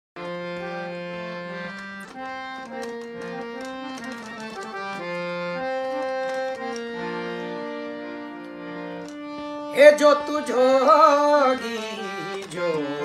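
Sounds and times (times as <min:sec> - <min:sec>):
harmonium melody: 0:00.2 - 0:13.0.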